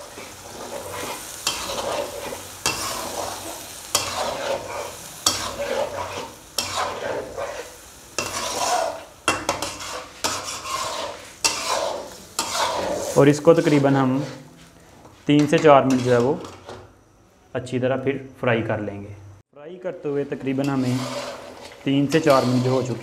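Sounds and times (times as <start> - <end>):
chicken sizzling: 0.0 - 16.4, 19.9 - 23.0
spatula scraping metal pan: 0.0 - 16.9, 20.0 - 23.0.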